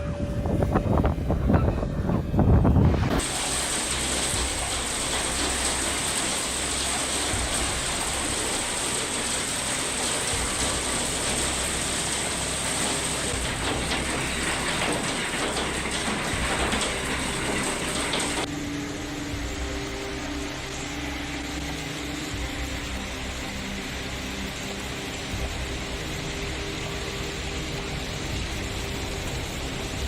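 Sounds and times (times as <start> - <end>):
low hum: 0.0 - 30.0
heavy rain on hard surface: 2.9 - 30.0.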